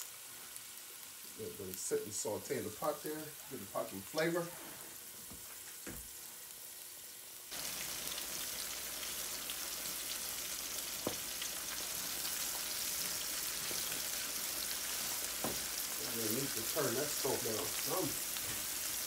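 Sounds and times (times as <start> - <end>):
chicken deep-frying in hot oil: 0.0 - 19.0
garlic sizzling in oil: 0.0 - 19.0.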